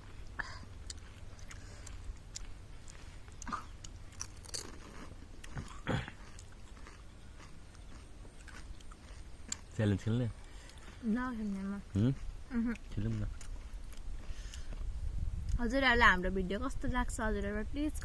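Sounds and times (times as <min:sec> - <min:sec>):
crunching and chewing snacks: 0:00.0 - 0:15.6.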